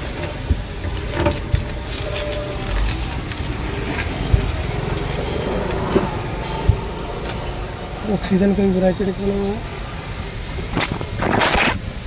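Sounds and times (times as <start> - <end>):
low steady rumble: 0.0 - 11.2.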